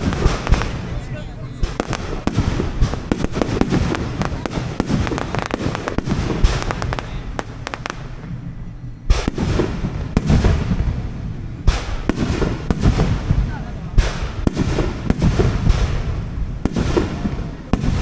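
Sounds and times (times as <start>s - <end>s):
loud firework bang: 0.0s - 8.5s, 9.1s - 18.0s
fireworks crackling and popping: 0.0s - 18.0s
low booms: 0.0s - 18.0s.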